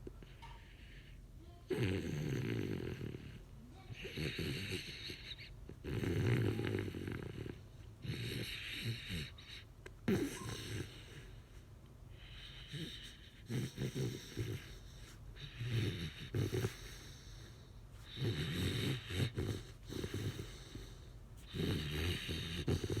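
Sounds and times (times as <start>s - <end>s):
puppy snoring: 0.0s - 23.0s
quiet breathing: 0.0s - 23.0s.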